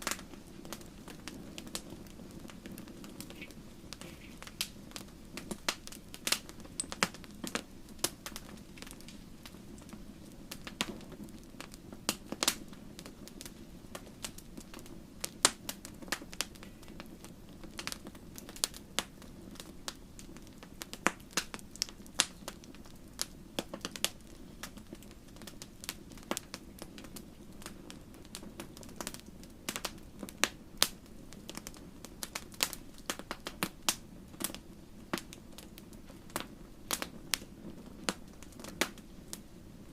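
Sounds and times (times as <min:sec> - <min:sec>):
sharp pops of fire: 0:00.0 - 0:39.9
wood fire crackling: 0:00.0 - 0:39.9.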